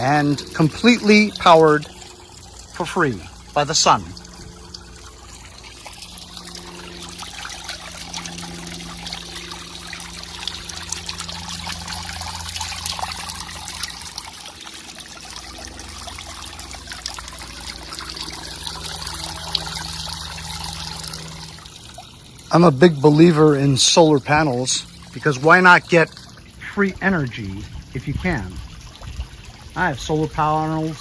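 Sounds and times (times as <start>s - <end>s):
water trickling and splashing: 0.0s - 31.0s.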